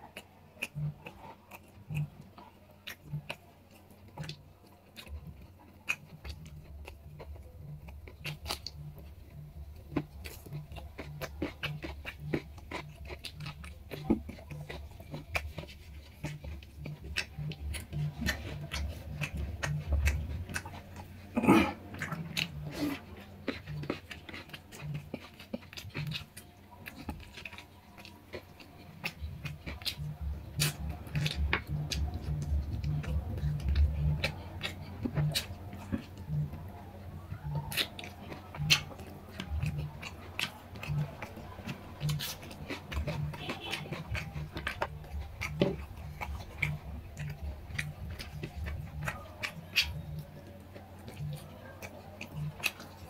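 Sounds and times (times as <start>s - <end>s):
fingers mixing food on plate: 0.0s - 53.0s
person chewing food: 0.0s - 53.0s.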